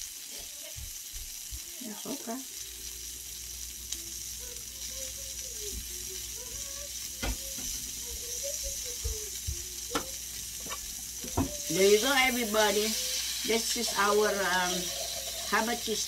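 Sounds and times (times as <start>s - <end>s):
vegetables sizzling on a grill: 0.0s - 16.0s.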